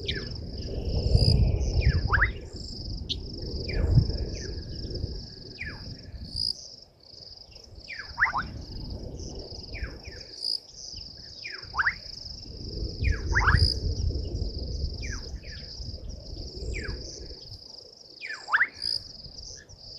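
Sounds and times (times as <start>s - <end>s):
crickets trilling: 0.0s - 19.9s.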